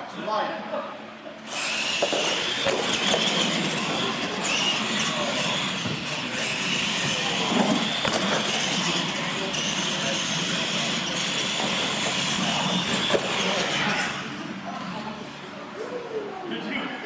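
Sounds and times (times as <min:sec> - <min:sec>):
electric motors whining: 0:01.4 - 0:15.8.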